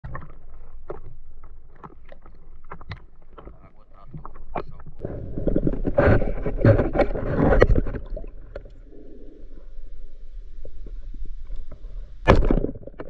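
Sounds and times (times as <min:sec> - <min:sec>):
muffled water splashing and gurgling: 0:00.0 - 0:13.0.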